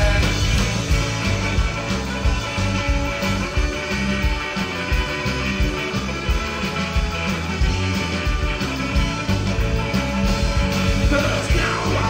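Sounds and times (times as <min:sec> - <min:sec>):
driving drum beat: 0:00.0 - 0:12.0
instrumental rock band: 0:00.0 - 0:12.0.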